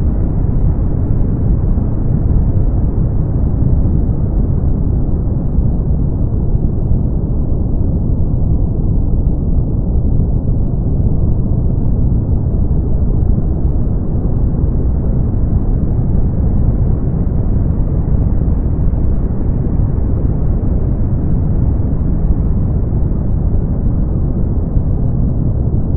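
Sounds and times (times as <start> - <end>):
deep rumbling brown noise: 0.0 - 25.9.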